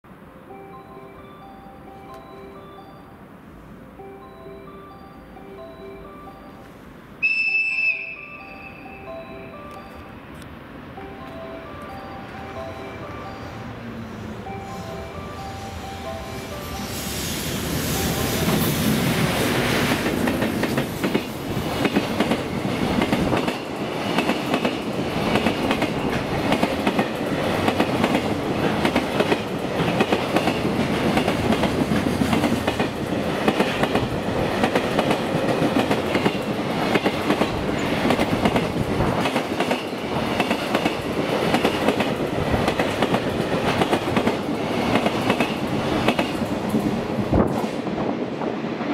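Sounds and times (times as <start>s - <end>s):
freight train passing: 0.1s - 48.9s.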